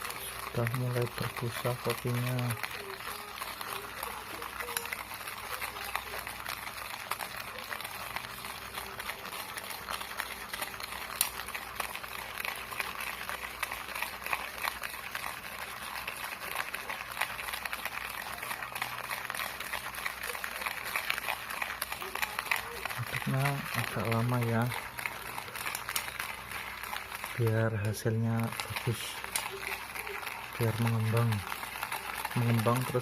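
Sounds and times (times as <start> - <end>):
utensil whisking in a dish: 0.0 - 33.0.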